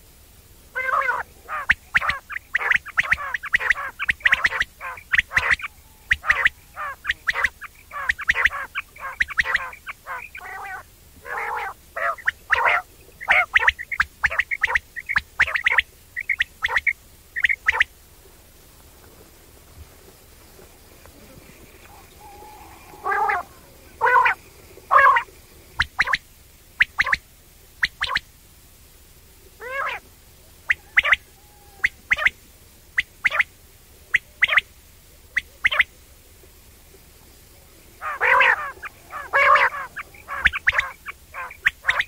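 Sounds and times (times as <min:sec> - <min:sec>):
quail calling: 0:00.7 - 0:18.0, 0:19.0 - 0:28.3, 0:29.6 - 0:32.4, 0:33.0 - 0:34.7, 0:35.3 - 0:36.0, 0:37.6 - 0:42.0.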